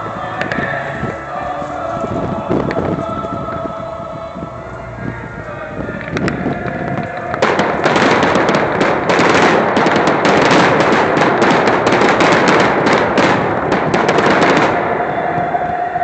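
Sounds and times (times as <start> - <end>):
fireworks crackling: 0.0 - 3.8, 4.8 - 16.0.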